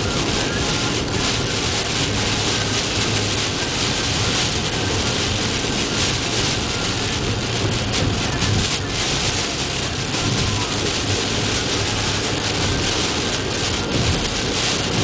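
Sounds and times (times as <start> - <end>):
heavy rain hissing: 0.0 - 15.0
low steady rumble: 0.0 - 15.0.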